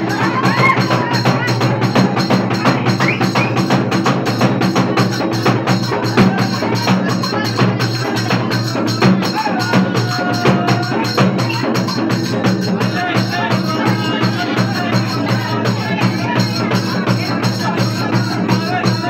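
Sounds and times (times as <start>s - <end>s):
crowd voices: 0.0s - 19.0s
fast festival drumming: 0.0s - 19.0s.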